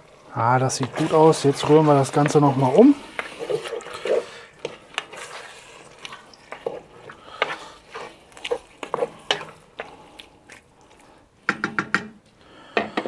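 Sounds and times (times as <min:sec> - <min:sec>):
wooden spoon scraping a pot: 0:00.0 - 0:11.1
sauce simmering hiss: 0:00.0 - 0:11.5.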